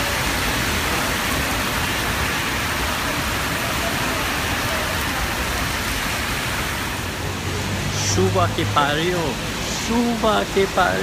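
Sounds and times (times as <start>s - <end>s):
heavy rain on street: 0.0s - 11.0s.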